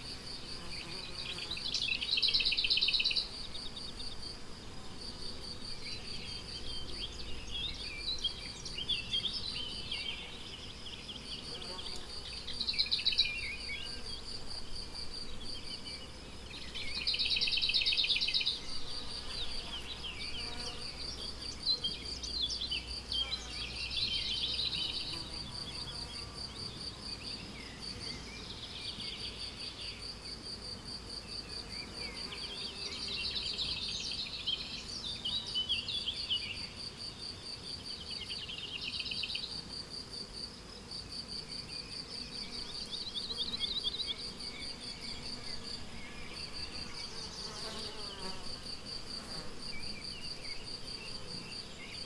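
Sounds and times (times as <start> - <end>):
songbirds singing: 0.0 - 4.2, 5.6 - 30.1, 31.2 - 36.8, 37.8 - 39.6, 41.5 - 48.4
crickets chirping: 0.0 - 52.0.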